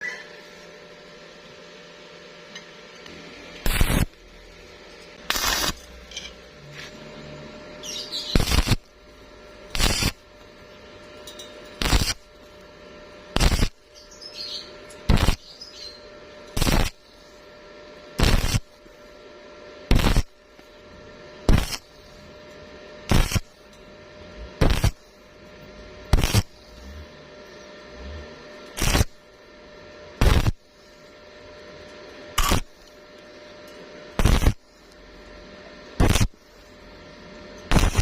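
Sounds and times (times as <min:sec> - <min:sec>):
welding arc crackling: 0:03.0 - 0:19.2, 0:19.8 - 0:38.0.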